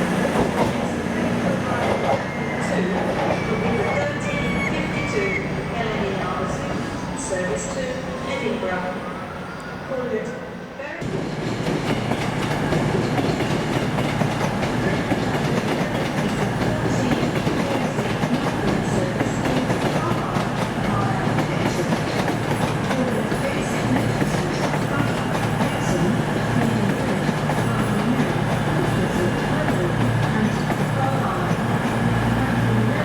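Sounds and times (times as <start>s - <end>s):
passenger train humming and rumbling: 0.0s - 33.0s.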